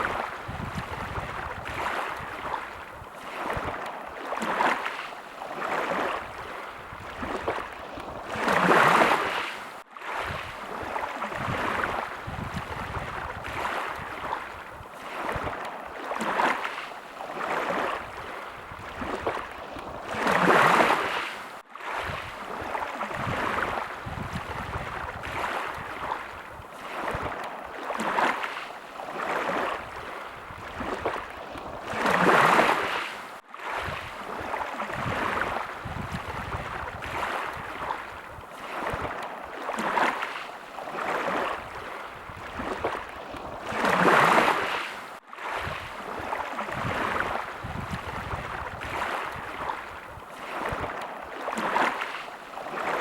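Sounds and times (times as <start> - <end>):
small waves lapping: 0.0 - 53.0
waves splashing: 0.0 - 53.0.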